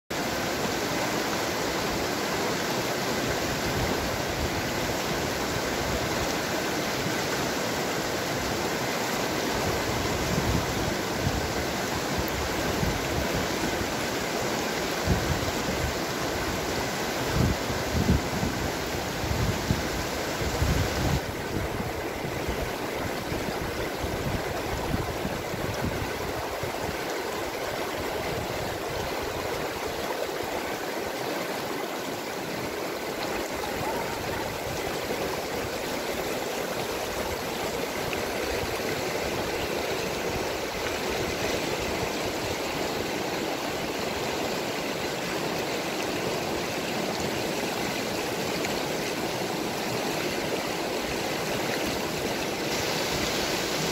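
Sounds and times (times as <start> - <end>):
river rushing over rocks: 0.1 - 53.9.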